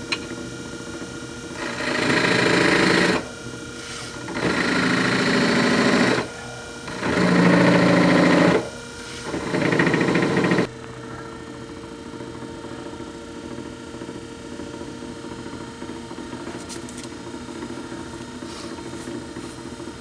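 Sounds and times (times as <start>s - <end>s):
lathe motor hum: 0.0s - 20.0s.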